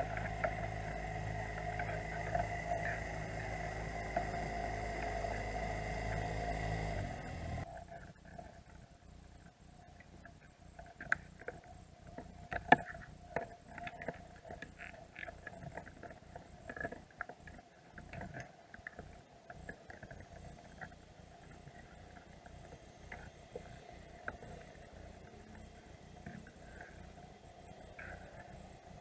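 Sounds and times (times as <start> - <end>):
underwater crab shells clicking: 0.0 - 5.6, 7.6 - 29.0
faint steady hum: 0.0 - 29.0.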